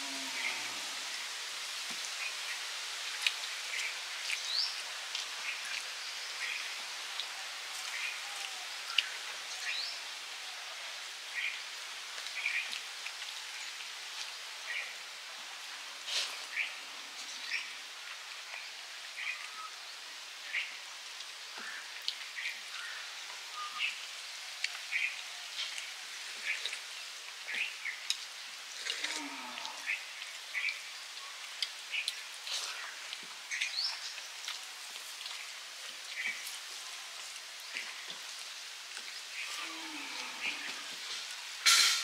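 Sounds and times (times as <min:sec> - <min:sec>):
steady outdoor hiss: 0:00.0 - 0:42.0.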